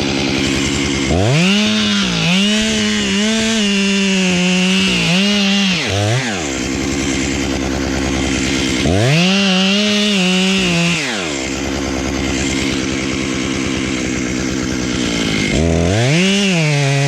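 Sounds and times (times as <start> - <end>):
two-stroke chainsaw revving: 0.0 - 17.0.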